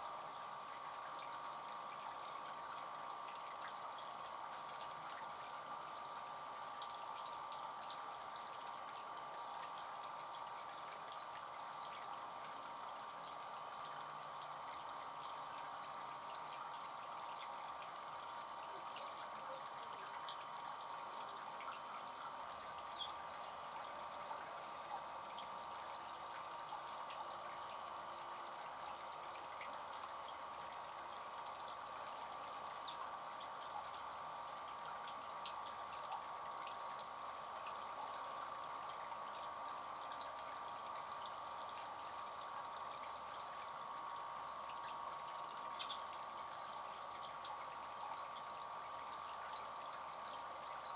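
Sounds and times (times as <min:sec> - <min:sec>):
fountain water trickling: 0:00.0 - 0:50.9
water dripping into basin: 0:00.1 - 0:50.9.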